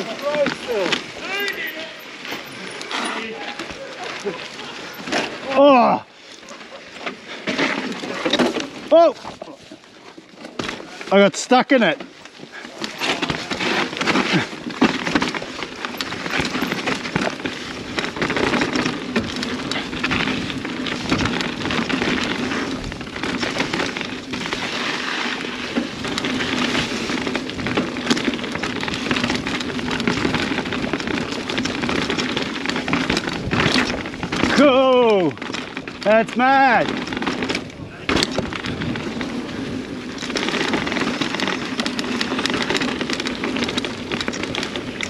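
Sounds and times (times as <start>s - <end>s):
bike knocks and rattles: 0.0s - 45.0s
bike tyres crackling on loose ground: 0.0s - 45.0s.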